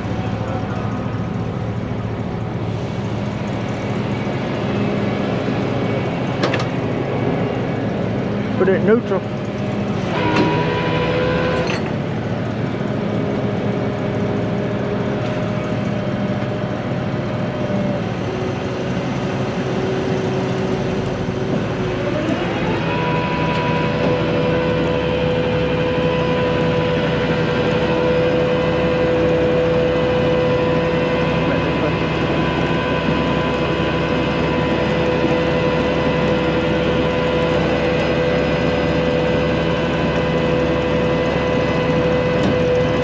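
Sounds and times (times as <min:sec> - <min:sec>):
heavy truck engine whining: 0:00.0 - 0:43.0.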